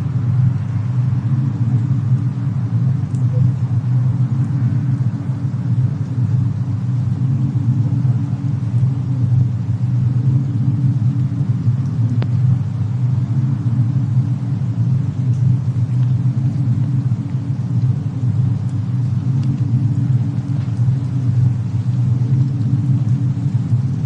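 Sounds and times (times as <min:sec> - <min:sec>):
steady low rumble: 0:00.0 - 0:24.0
wood fire crackling: 0:00.0 - 0:24.0.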